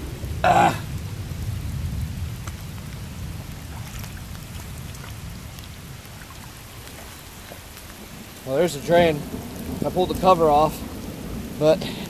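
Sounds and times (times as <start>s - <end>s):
heavy rain on shallow water: 0.0s - 12.0s.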